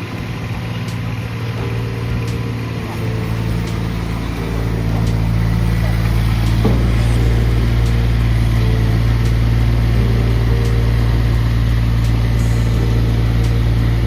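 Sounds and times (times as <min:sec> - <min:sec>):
loader engine droning: 0:00.0 - 0:14.0.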